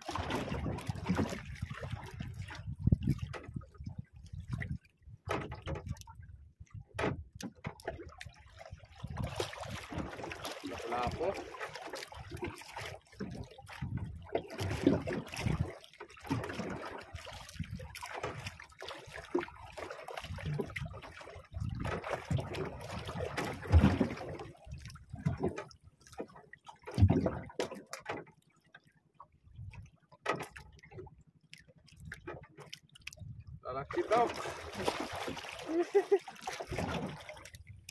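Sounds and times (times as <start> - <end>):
water lapping against boat: 0.0 - 37.9.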